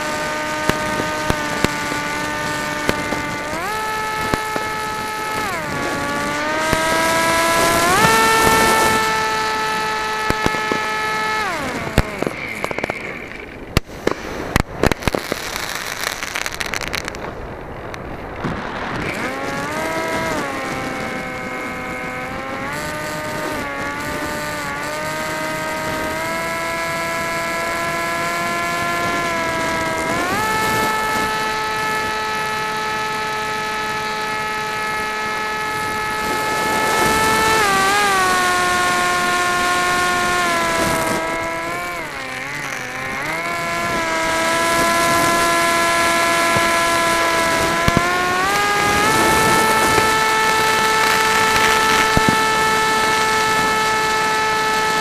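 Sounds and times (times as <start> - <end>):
model aircraft motor whine: 0.0 - 15.4, 16.0 - 55.0.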